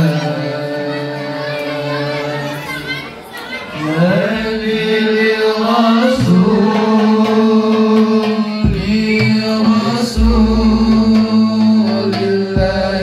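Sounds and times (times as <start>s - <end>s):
young man singing through pa: 0.0s - 2.6s, 3.8s - 13.0s.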